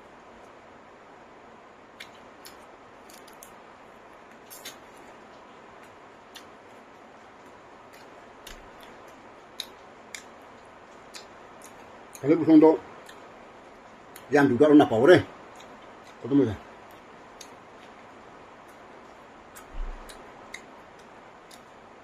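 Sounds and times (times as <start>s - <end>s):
steady low hiss: 0.0s - 22.0s
wet mouth clicks and smacks chewing: 2.0s - 3.6s, 4.3s - 12.3s, 12.9s - 14.3s, 15.3s - 22.0s.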